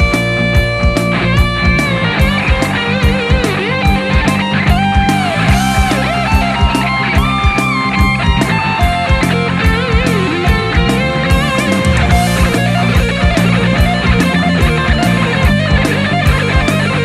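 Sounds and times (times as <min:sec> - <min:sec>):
bass guitar: 0:00.0 - 0:17.0
lead electric guitar melody: 0:00.0 - 0:17.0
steady drum beat: 0:00.0 - 0:17.0.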